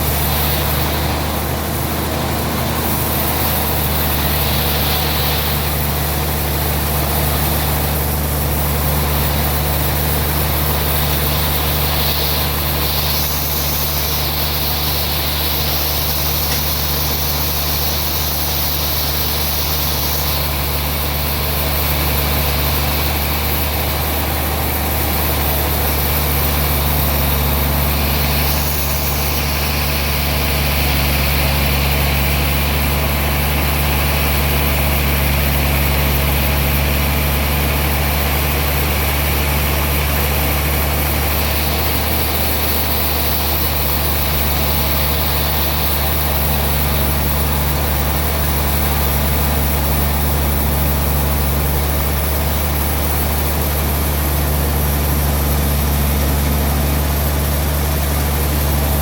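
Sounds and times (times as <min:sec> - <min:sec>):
sawmill machinery sawing log: 0:00.0 - 0:59.0.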